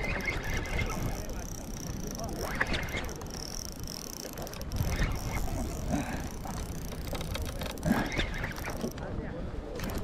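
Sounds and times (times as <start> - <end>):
fishing reel whirring and clicking: 0.0 - 9.0, 9.8 - 10.0.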